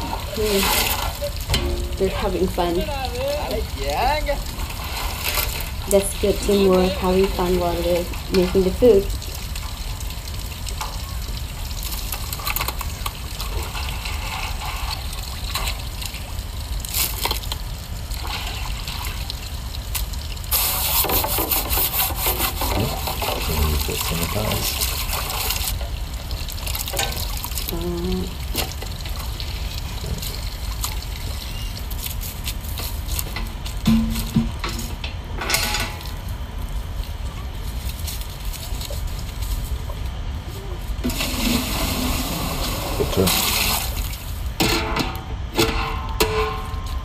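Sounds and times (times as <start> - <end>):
water splashing and pouring: 0.0 - 39.8, 41.0 - 44.8.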